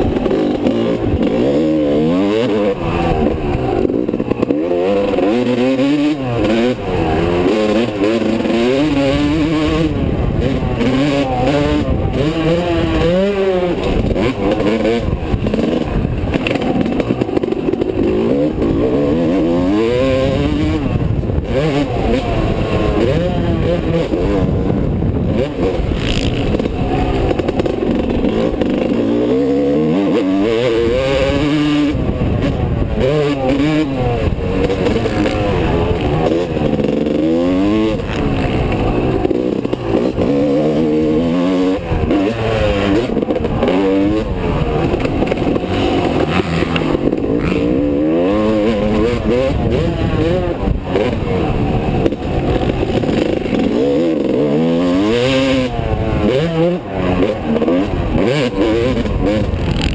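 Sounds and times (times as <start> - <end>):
two-stroke motorcycle engine revving: 0.0 - 59.9
wind noise: 0.0 - 59.9.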